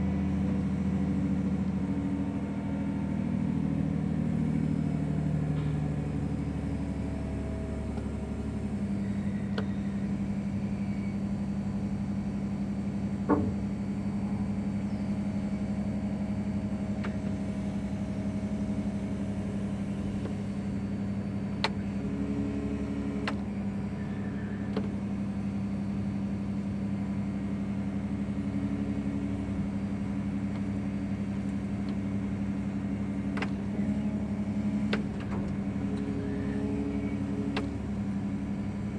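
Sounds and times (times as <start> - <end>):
heavy machinery engine running: 0.0 - 38.9.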